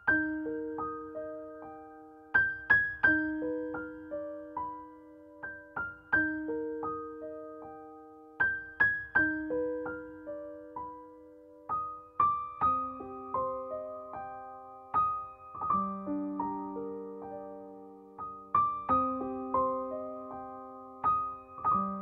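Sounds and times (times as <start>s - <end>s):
slow solo piano music: 0.0s - 22.0s.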